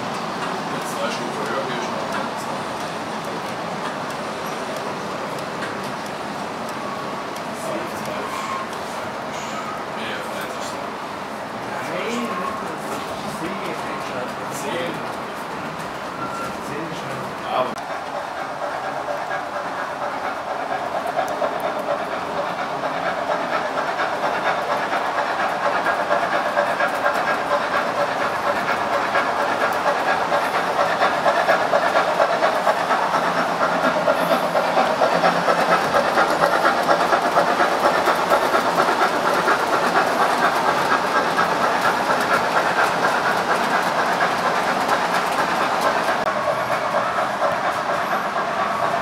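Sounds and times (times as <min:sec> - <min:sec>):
model steam locomotive running: 0:00.0 - 0:49.0
wheels clicking on track: 0:00.0 - 0:49.0.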